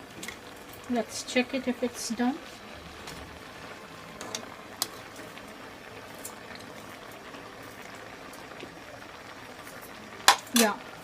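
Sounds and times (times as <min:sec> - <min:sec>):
pot of water boiling: 0:00.0 - 0:11.0.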